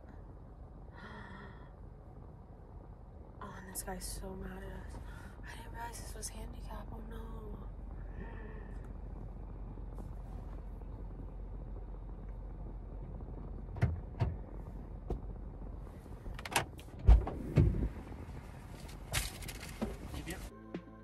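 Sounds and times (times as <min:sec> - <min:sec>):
car interior hum: 0:00.0 - 0:20.5.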